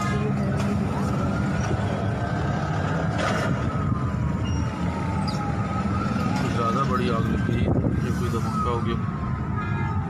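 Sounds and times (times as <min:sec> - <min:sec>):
low rumble of traffic: 0:00.0 - 0:10.0
siren wailing: 0:00.1 - 0:10.0.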